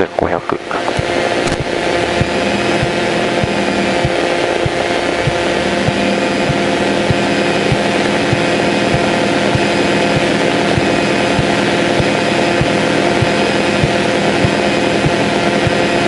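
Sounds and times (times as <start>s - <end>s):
aircraft engine running: 0.0s - 16.0s.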